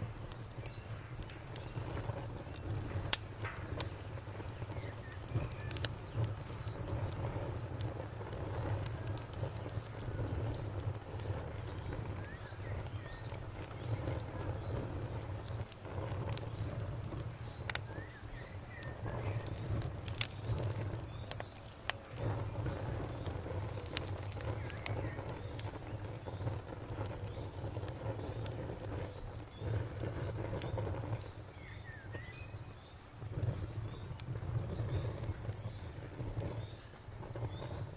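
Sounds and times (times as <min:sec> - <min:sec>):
cricket chirping: 0:00.0 - 0:37.9
wood fire crackling and popping: 0:00.0 - 0:37.9.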